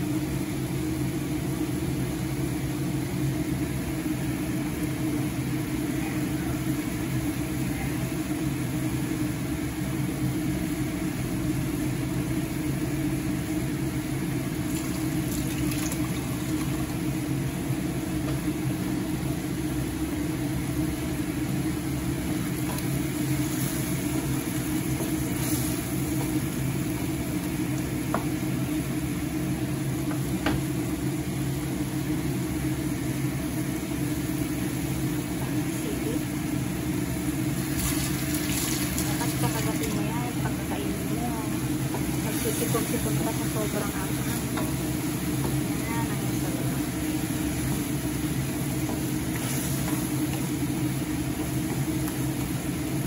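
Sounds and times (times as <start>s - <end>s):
steady low hum: 0.0s - 53.0s
chicken sizzling in frying pan: 6.5s - 53.0s.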